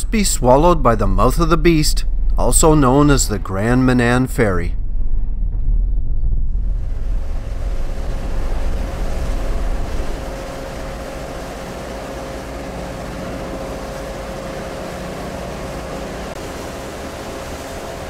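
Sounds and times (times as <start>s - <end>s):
rushing wind and water: 0.0s - 5.0s, 6.5s - 18.0s
ferry engine rumble: 0.0s - 18.0s.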